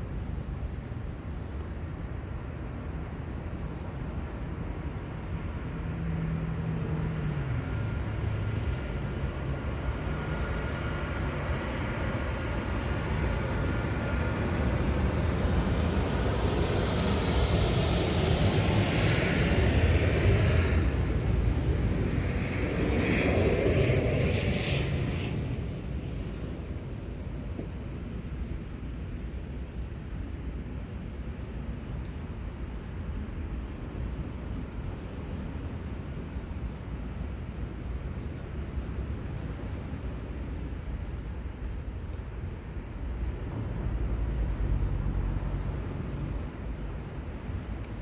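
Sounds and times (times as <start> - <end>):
faint high whine: 0.0 - 48.0
jet aircraft passing over: 0.0 - 48.0.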